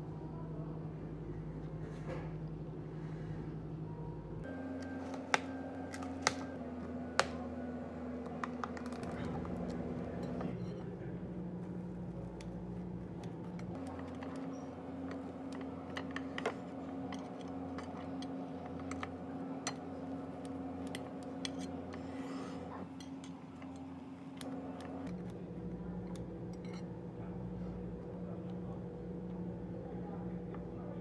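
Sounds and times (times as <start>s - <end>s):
appliance hum: 0.0s - 31.0s.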